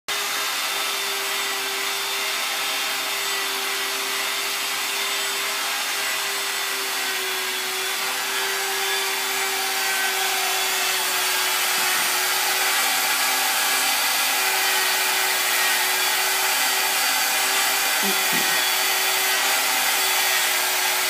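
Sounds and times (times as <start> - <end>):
rotary tool motor whine: 0.1 - 21.0.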